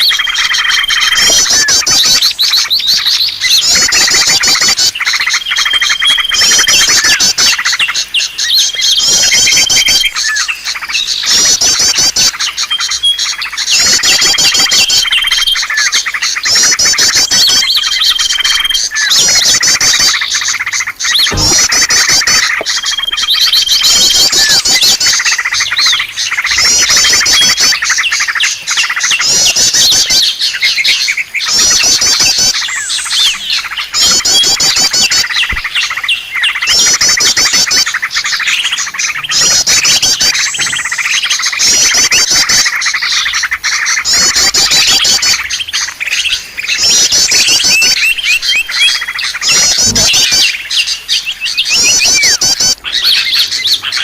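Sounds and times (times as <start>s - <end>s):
high-pitched bird trills: 0.0s - 54.0s
small birds chirping: 0.0s - 54.0s.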